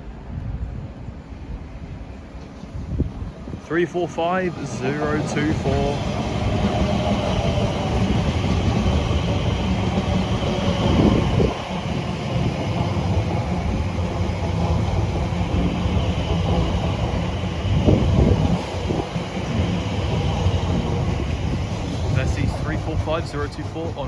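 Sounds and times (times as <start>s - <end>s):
electric train running past: 0.0s - 24.0s.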